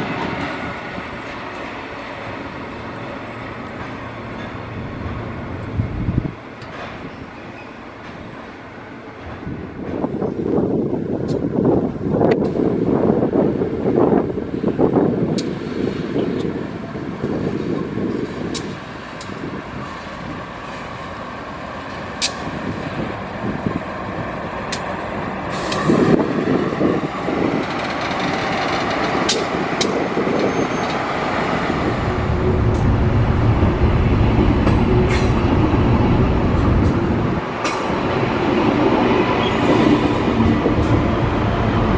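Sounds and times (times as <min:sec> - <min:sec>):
diesel locomotive running: 0:00.0 - 0:41.9
electric passenger train passing: 0:00.0 - 0:41.9.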